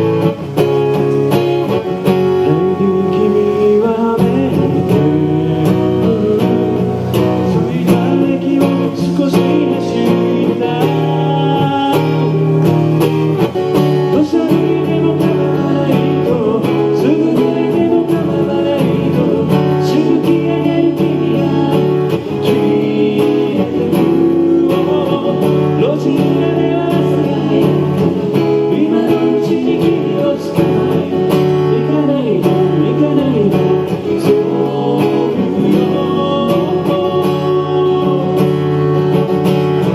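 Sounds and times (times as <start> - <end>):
acoustic guitar playing: 0.0 - 39.9
person singing: 1.9 - 12.7, 13.5 - 39.9.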